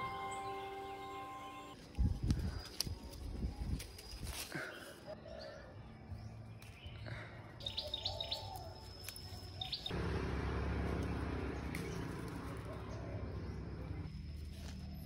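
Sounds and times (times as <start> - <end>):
outdoor background noise: 0.0 - 15.0
small birds chirping: 0.0 - 15.0.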